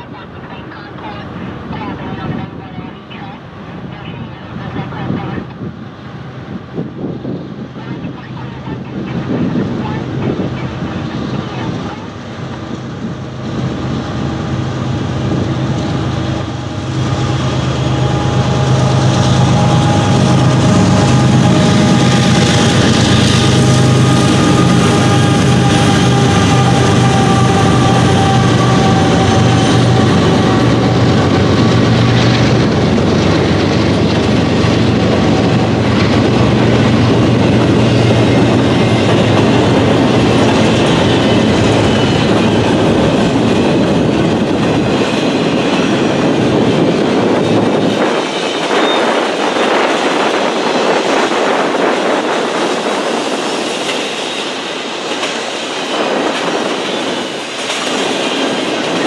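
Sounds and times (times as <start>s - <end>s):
locomotive engine drone: 0.0s - 59.0s
freight cars rumbling and clattering: 6.5s - 59.0s.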